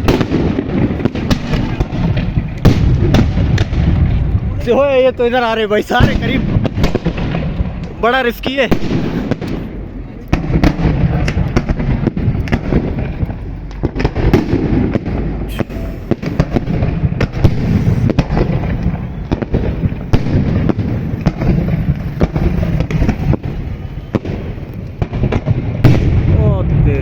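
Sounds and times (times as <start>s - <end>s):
fireworks bangs: 0.0s - 27.0s
fireworks rumble and crackle: 0.0s - 27.0s.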